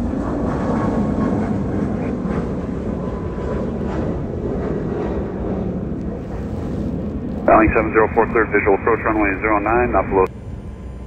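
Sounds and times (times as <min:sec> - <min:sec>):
jet climbing low rumble: 0:00.0 - 0:11.0.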